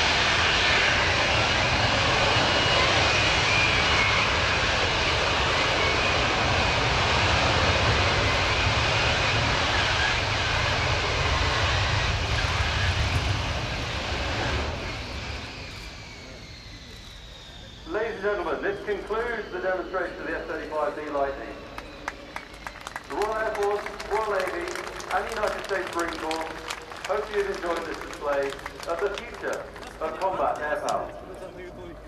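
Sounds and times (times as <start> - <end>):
falling jet whine: 0.0 - 32.0
jet engine running loud: 0.0 - 32.0.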